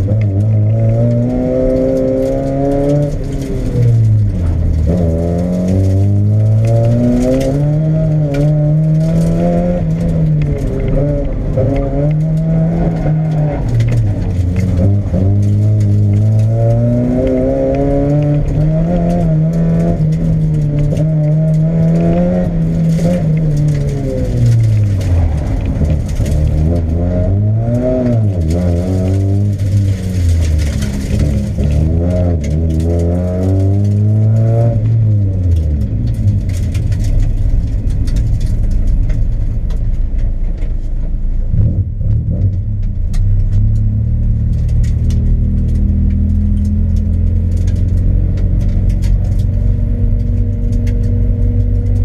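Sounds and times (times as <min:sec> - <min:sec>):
car engine accelerating and shifting: 0:00.0 - 0:52.0.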